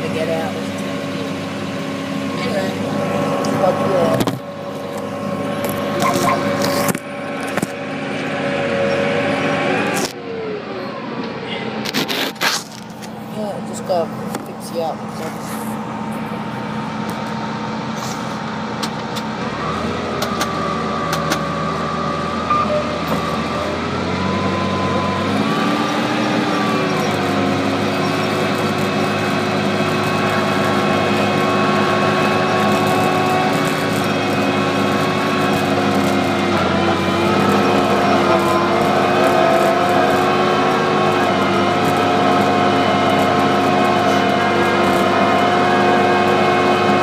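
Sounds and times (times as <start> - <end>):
tractor engine under load: 0.0 - 47.0.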